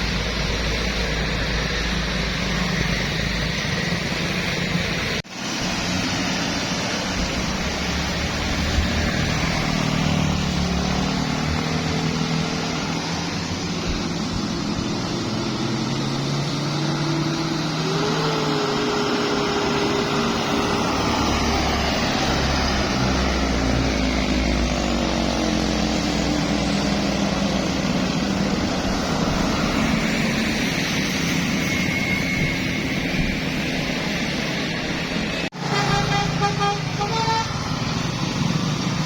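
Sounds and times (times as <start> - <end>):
large vehicle engine climbing: 0.0 - 39.0
road traffic: 0.0 - 39.0.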